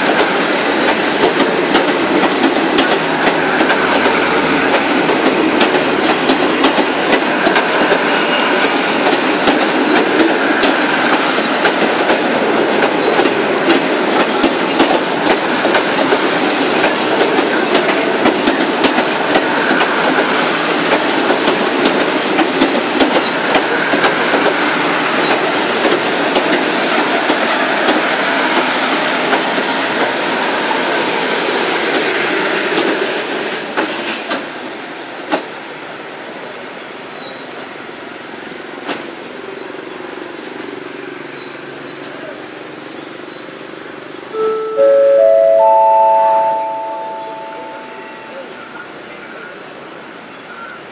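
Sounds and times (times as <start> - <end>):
train coaches rumbling past: 0.0 - 50.9.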